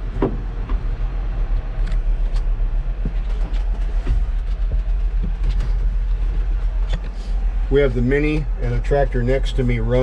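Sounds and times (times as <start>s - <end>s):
tractor engines rumbling: 0.0s - 10.0s.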